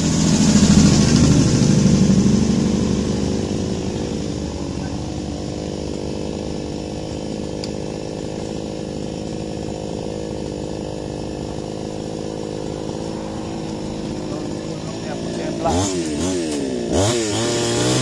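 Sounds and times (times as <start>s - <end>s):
chainsaw engine running: 0.0s - 18.0s.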